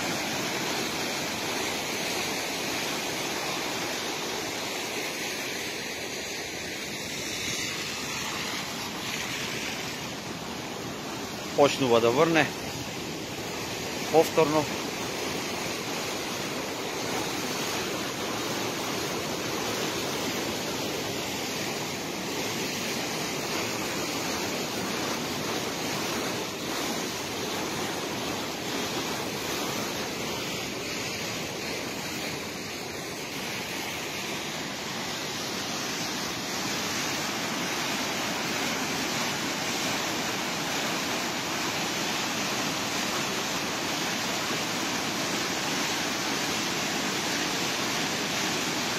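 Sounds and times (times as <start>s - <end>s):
river rushing: 0.0s - 48.9s.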